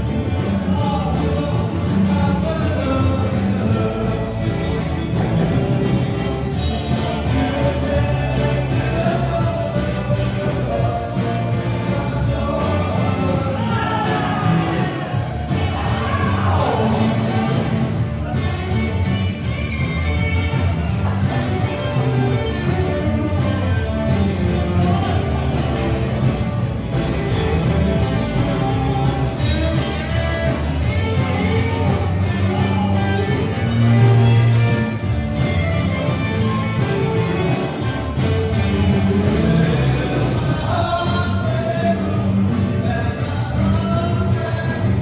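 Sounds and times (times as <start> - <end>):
drum beat: 0.0 - 45.0
guitar: 0.0 - 45.0
person singing: 6.6 - 34.9, 36.3 - 45.0.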